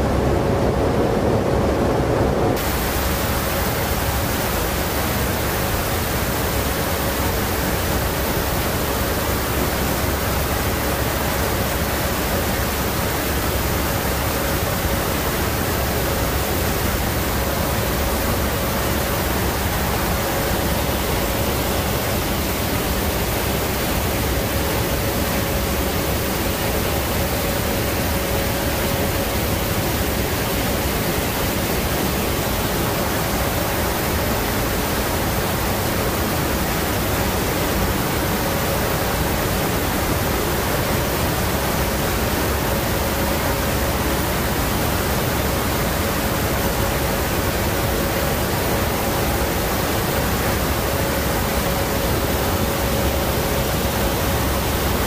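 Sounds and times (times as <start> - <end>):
aircraft engine noise: 0.0 - 55.0
faint steady hum: 0.0 - 55.0
rushing wind: 0.0 - 55.0.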